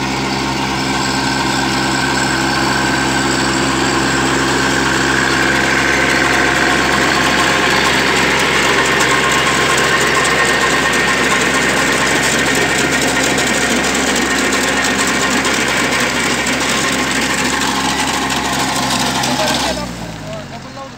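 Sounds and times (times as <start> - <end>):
tractor diesel engine running: 0.0 - 20.9
weeder churning through soil: 0.0 - 20.9.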